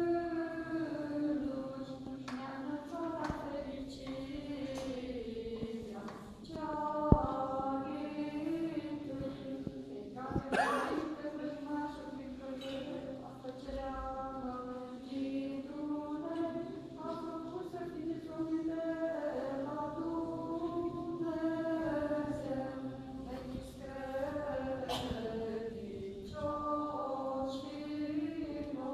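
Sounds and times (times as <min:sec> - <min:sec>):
unaccompanied voices chanting: 0:00.0 - 0:28.9.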